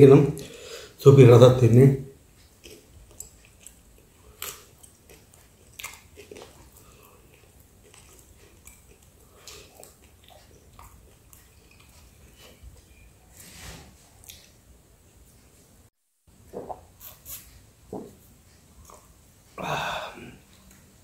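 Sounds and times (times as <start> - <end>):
man chewing food: 2.3 - 13.3, 14.0 - 15.4, 16.3 - 21.0.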